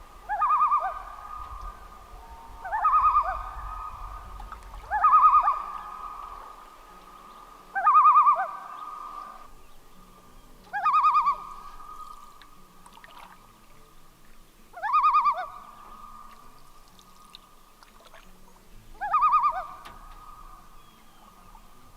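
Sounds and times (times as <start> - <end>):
loons calling: 0.0 - 13.7, 14.7 - 21.9.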